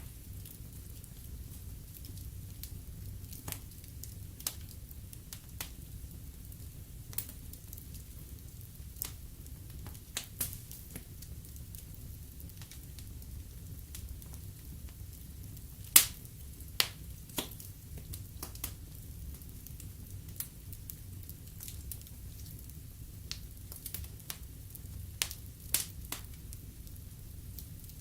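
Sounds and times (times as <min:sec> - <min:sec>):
fire crackling with pops: 0:00.0 - 0:28.0.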